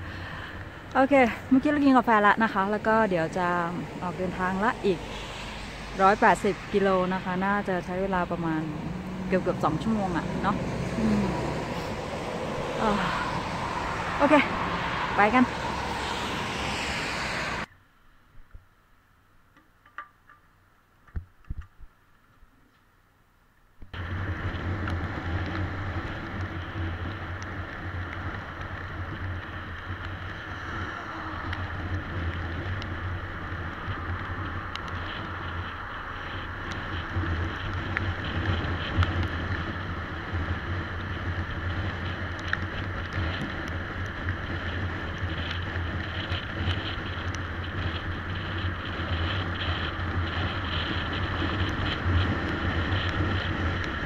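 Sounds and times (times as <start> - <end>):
wind rushing over microphone: 0.0 - 17.7, 24.0 - 54.0
motorcycle engine drone: 0.0 - 17.8, 23.8 - 54.0.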